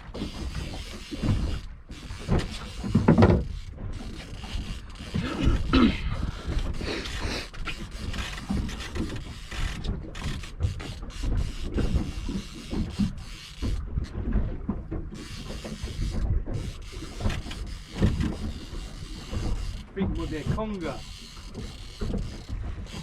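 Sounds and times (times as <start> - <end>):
fishing reel ratcheting: 0.2 - 13.8, 15.1 - 23.0.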